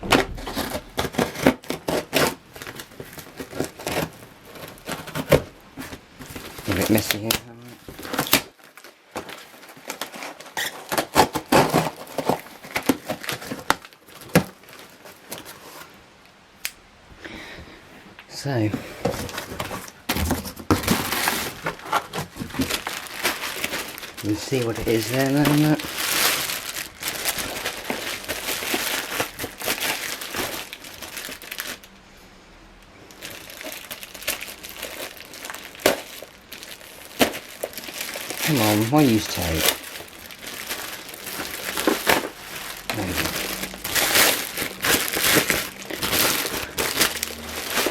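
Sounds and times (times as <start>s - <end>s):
packaging crinkling and tearing: 0.0s - 16.0s, 19.0s - 32.0s, 33.0s - 47.9s.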